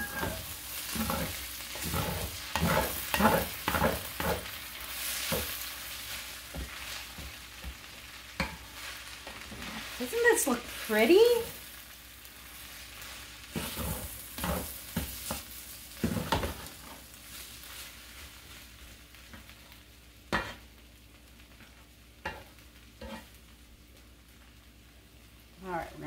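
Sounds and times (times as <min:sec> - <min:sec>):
spatula stirring and scraping: 0:00.0 - 0:19.6, 0:20.3 - 0:20.7, 0:21.6 - 0:23.4
rice sizzling in a skillet: 0:00.0 - 0:26.0.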